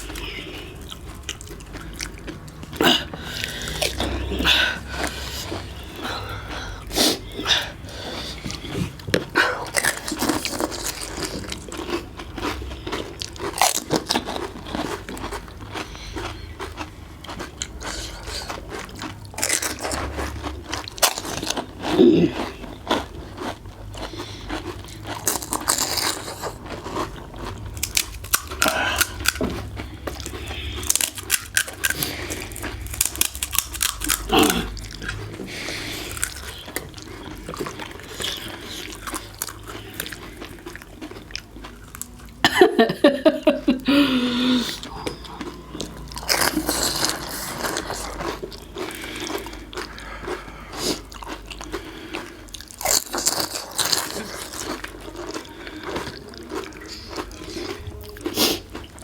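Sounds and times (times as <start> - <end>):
crisp shells crunching when chewed: 0.0 - 42.5, 44.0 - 59.0.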